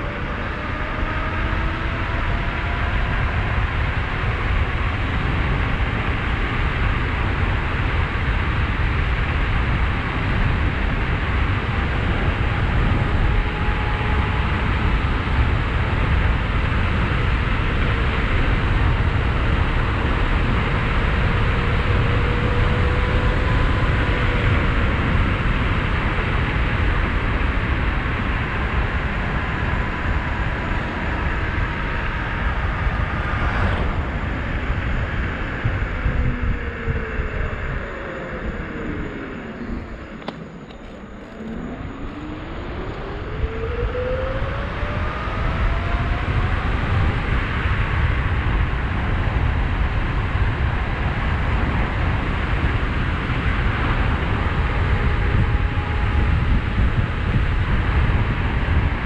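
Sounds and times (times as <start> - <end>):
wind buffeting on microphone: 0.0 - 59.0.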